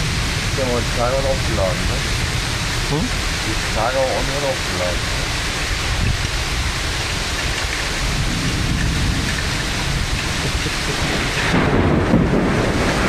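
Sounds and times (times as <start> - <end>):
heavy rain falling: 0.0 - 13.0
low rumble: 0.0 - 13.0.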